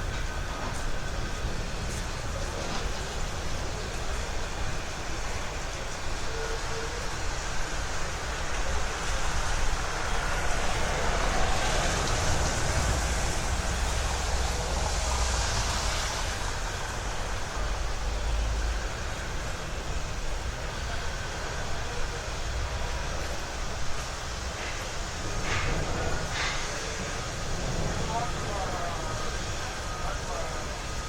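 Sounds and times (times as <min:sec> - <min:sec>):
tram passing: 0:00.0 - 0:31.0.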